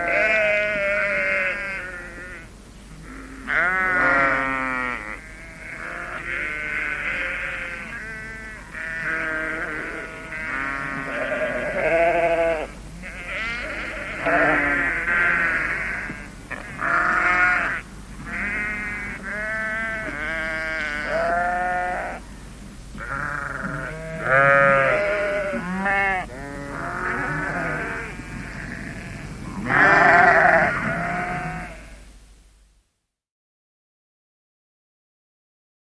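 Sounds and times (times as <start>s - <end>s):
sheep bleating: 0.0s - 22.2s, 23.0s - 32.0s.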